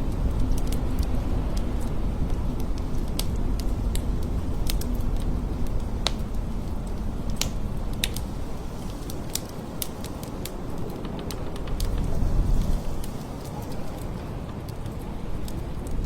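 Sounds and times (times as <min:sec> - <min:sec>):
blizzard wind rumbling: 0:00.0 - 0:16.0
sharp crackling ticks: 0:00.0 - 0:16.0.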